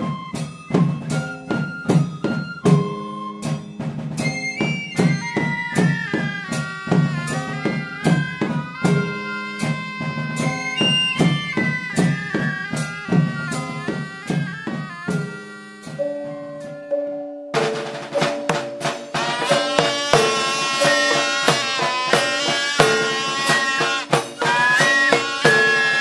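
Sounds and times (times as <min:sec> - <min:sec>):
marching drum beats: 0:00.0 - 0:16.5, 0:17.6 - 0:26.0
reedy wind instrument melody: 0:00.0 - 0:17.8, 0:18.8 - 0:26.0.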